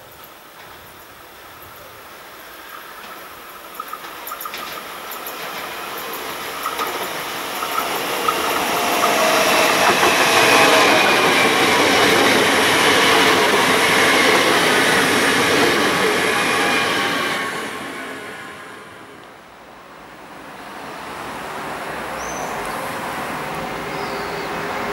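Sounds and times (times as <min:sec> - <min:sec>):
train wheels rushing on rail: 0:00.0 - 0:24.9.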